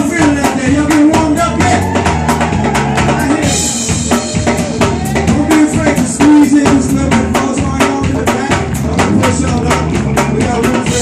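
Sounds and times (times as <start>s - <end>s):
drum kit beat: 0.0s - 11.0s
electric guitar: 1.6s - 11.0s.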